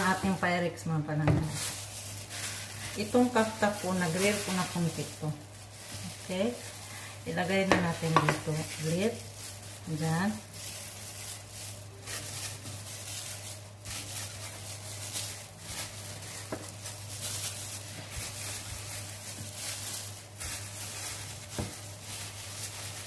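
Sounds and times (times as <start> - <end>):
plastic gloves rustling: 0.0 - 23.0.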